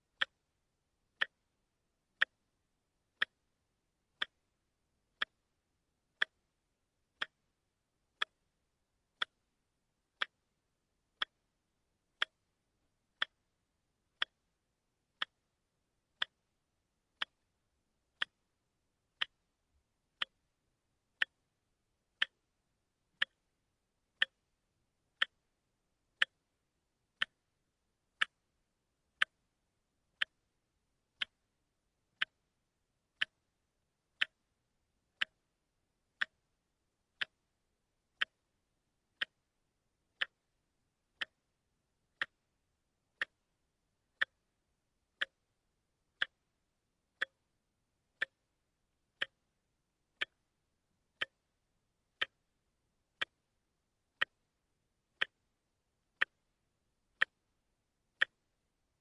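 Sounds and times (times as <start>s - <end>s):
watch ticking: 0.0s - 0.5s, 1.1s - 1.5s, 2.1s - 26.6s, 27.2s - 31.5s, 32.1s - 35.5s, 36.1s - 36.5s, 37.1s - 41.5s, 42.1s - 47.5s, 48.1s - 50.6s, 51.2s - 53.6s, 54.2s - 54.5s, 55.1s - 55.6s, 56.2s - 57.5s, 58.1s - 58.6s.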